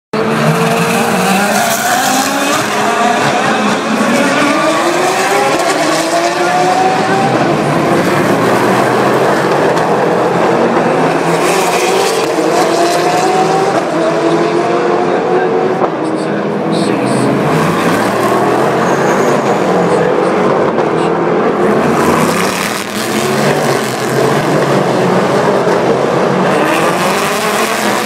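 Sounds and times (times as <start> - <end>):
race car engines revving: 0.2 - 28.0.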